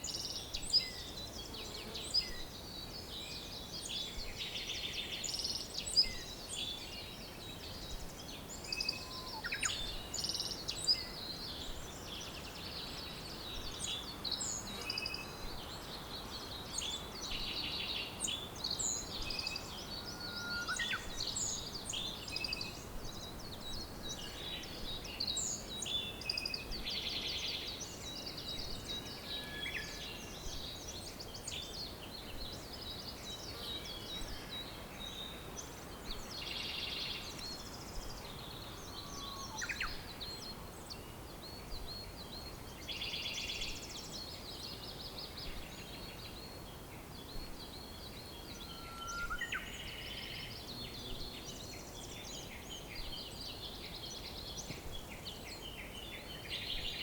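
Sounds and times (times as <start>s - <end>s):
background hiss: 0.0s - 57.0s
wild birds chirping and singing: 0.0s - 57.0s.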